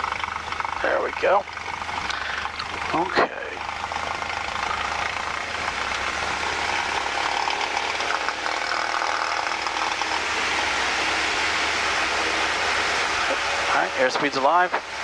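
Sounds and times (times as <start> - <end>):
airplane engine drone in cabin: 0.0 - 15.0.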